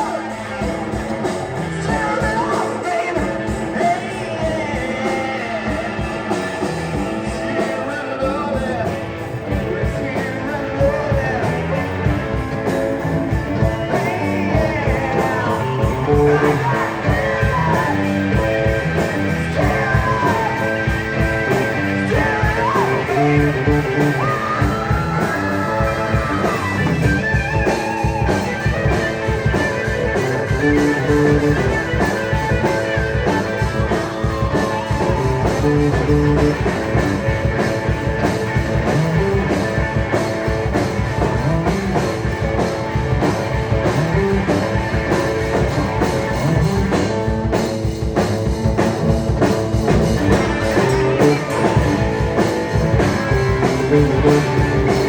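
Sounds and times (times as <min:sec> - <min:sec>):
person singing: 0:00.0 - 0:47.6, 0:49.8 - 0:55.0
drums: 0:00.0 - 0:55.0
electric guitar: 0:00.0 - 0:55.0.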